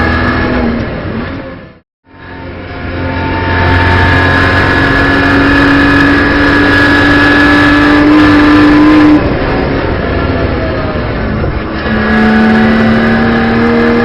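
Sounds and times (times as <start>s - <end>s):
car engine under full load: 0.0s - 14.0s.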